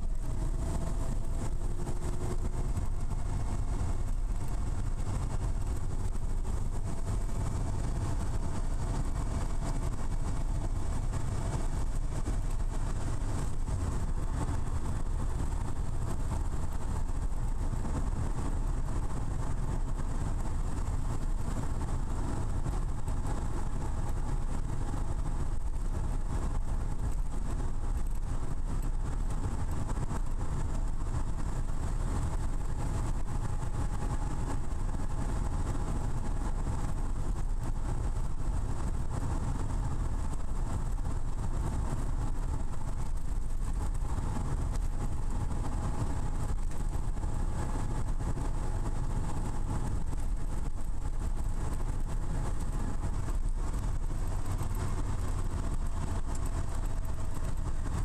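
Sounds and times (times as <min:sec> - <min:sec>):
car engine cruising: 0:00.0 - 0:58.0
tyre and road noise: 0:00.0 - 0:58.0.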